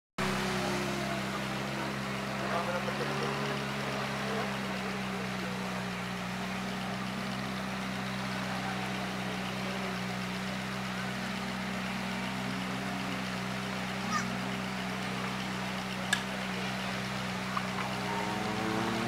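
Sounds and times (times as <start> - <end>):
car engine idling: 0.2 - 19.0.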